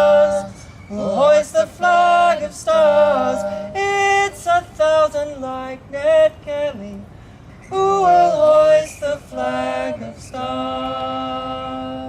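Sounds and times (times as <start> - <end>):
voices singing in harmony: 0.0 - 12.0.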